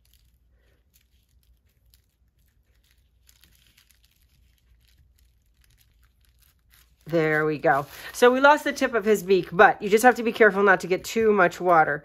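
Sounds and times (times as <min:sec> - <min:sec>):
tissue paper tearing and rustling: 0:00.0 - 0:11.9.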